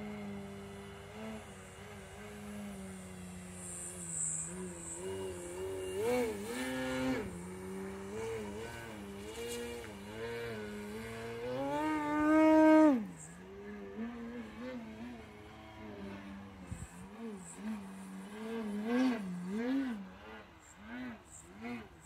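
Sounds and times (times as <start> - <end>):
electric motor and propeller hum: 0.0 - 22.0.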